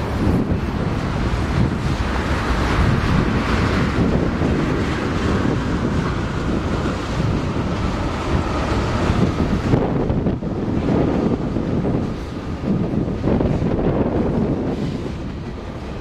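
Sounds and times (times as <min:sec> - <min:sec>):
train wheels rumbling on rails: 0:00.0 - 0:16.0
wind buffeting microphone: 0:00.0 - 0:16.0.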